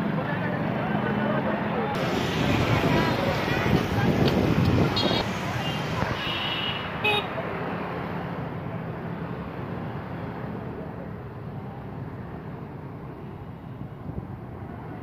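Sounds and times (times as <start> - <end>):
motorcycles passing: 0.0 - 13.5
cars passing: 0.0 - 15.0.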